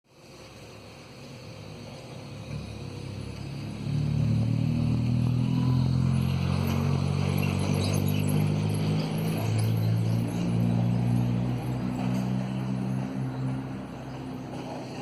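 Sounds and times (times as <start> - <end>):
rain hiss: 0.1 - 15.0.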